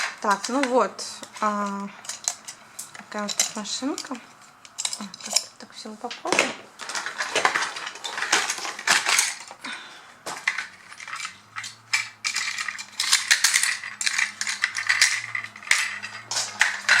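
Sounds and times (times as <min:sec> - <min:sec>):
plastic parts clicking and rattling: 0:00.0 - 0:17.0.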